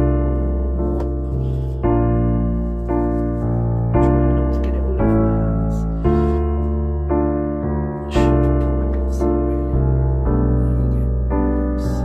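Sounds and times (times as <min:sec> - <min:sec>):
sustained piano chords: 0:00.0 - 0:12.0.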